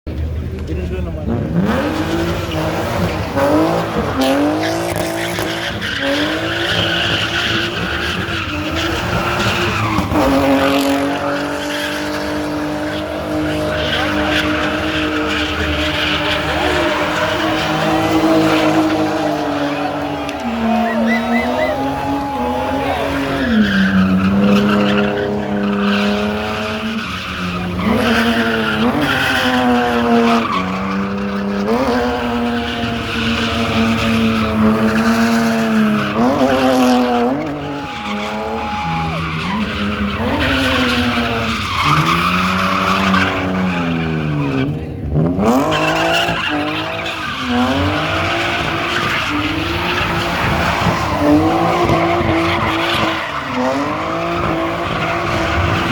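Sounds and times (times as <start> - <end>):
car engines revving: 0.1 - 55.9.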